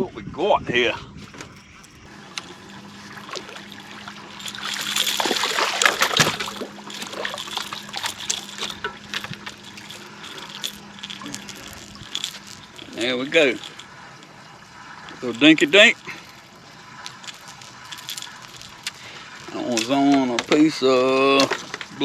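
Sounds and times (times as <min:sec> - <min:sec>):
steady low hum: 0:00.0 - 0:22.0
water splashing and dripping: 0:02.1 - 0:22.0.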